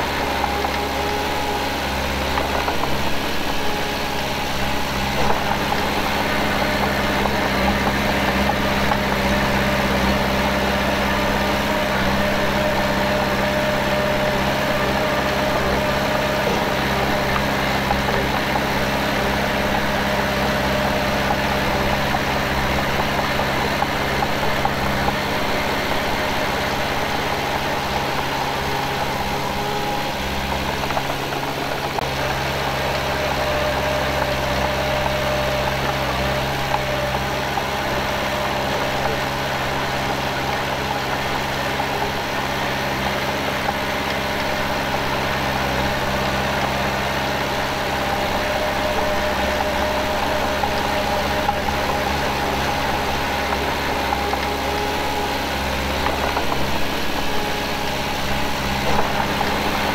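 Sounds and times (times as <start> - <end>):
diesel engine of heavy machinery: 0.0 - 59.9.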